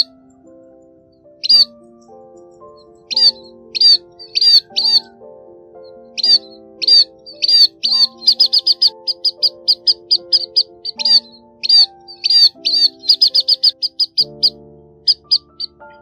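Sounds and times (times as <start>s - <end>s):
birds chirping sharply: 0.0s - 5.2s, 5.8s - 16.0s
soft background music: 0.0s - 16.0s.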